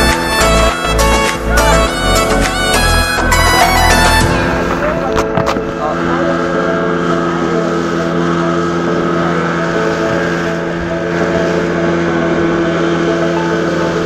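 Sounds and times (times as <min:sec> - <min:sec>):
outboard motor running: 0:00.0 - 0:14.0
wind: 0:00.0 - 0:14.0.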